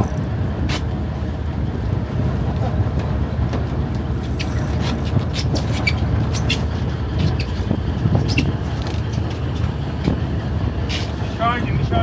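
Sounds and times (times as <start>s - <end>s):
boat engines rumbling: 0.0s - 12.0s.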